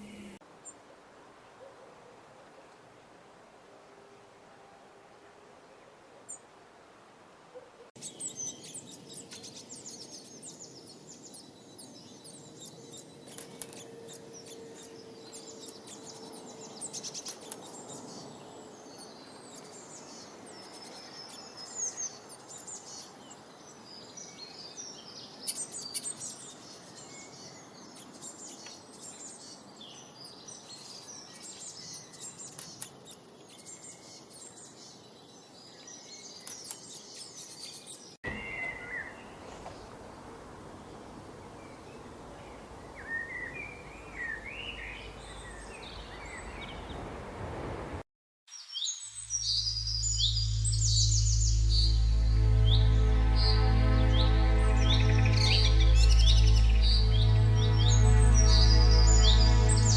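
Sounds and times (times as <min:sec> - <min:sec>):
steady background hiss: 0:00.0 - 0:29.8, 0:38.3 - 0:59.9
songbirds chirping and twittering: 0:00.0 - 0:59.9.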